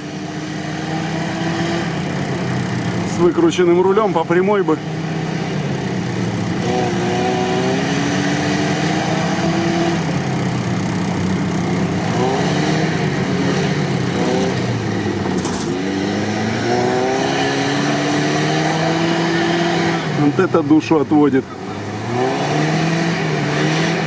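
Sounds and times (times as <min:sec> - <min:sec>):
engine revving under load: 0:00.0 - 0:24.0.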